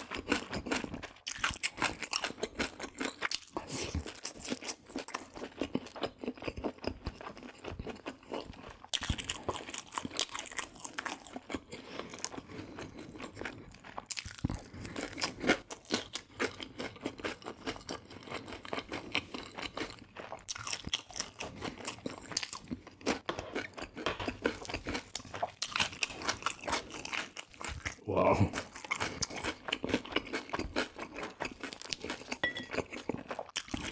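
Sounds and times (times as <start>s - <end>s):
crunching crispy fried food: 0.0s - 32.4s.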